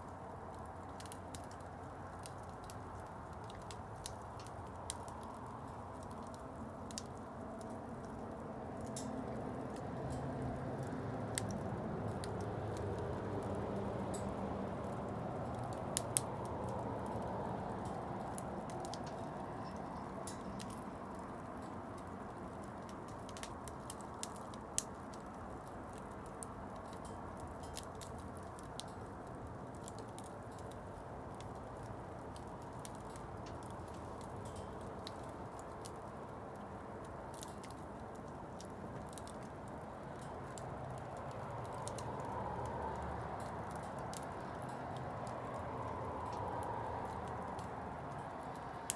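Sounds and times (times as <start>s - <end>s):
bonfire burning with crackles: 0.0s - 48.9s.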